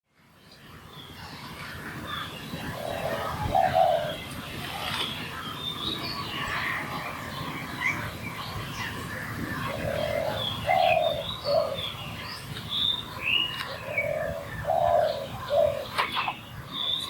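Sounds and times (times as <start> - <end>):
birds chirping and twittering: 0.1 - 17.0.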